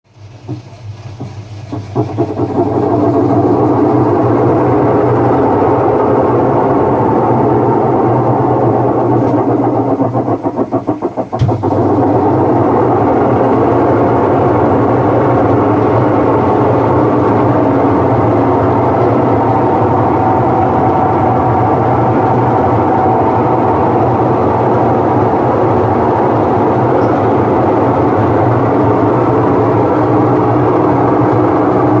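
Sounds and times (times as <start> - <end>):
washing machine droning: 0.0 - 32.0.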